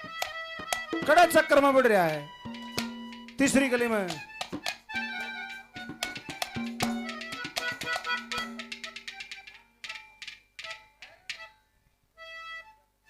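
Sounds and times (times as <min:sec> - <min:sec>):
hand drums struck: 0:00.0 - 0:11.5
instrumental folk music: 0:00.0 - 0:13.0.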